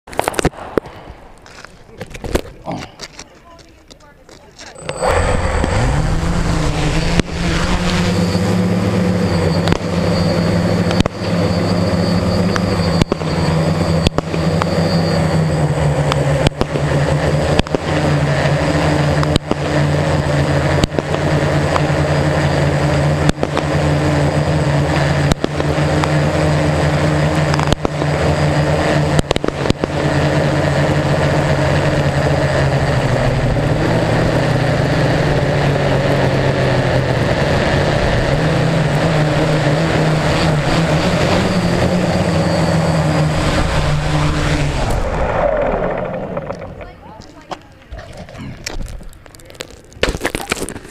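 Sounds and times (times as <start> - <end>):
drone motors and propellers humming: 4.6 - 50.9.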